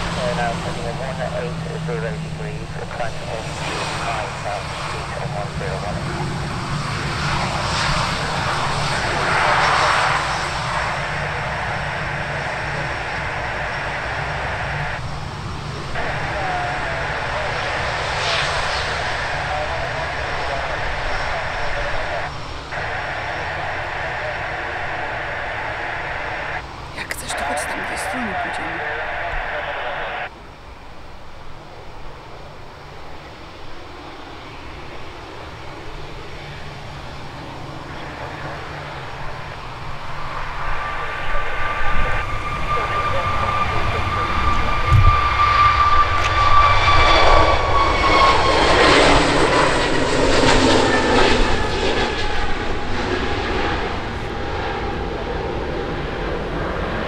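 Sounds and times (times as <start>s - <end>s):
airliner engines passing: 0.0s - 57.0s.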